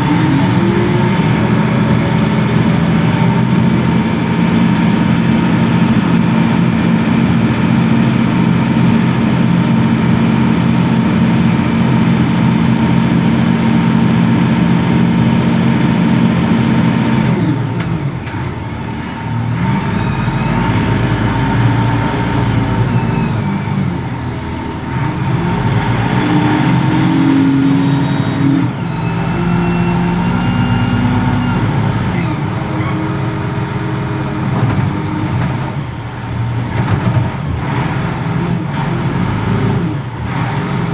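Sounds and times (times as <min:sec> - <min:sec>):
heavy diesel engine revving: 0:00.0 - 0:40.9.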